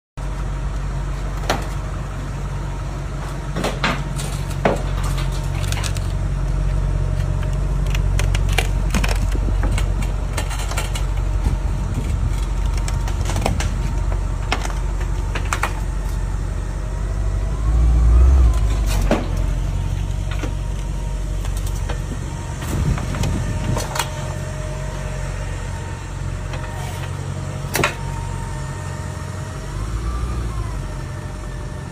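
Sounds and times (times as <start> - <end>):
car engine running low: 0.2 - 31.9.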